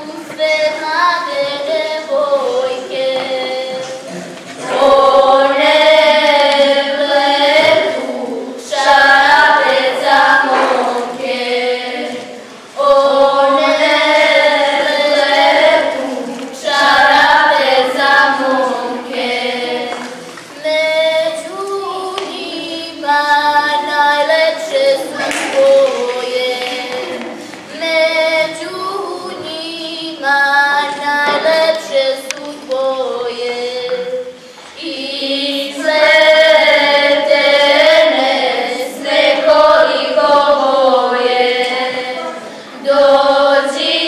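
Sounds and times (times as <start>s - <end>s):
group singing folk song: 0.0s - 44.0s.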